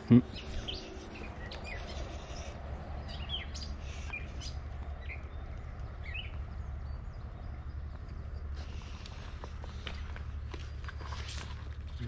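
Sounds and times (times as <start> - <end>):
small birds chirping: 0.0 - 11.8
steady low rumble: 0.0 - 12.0.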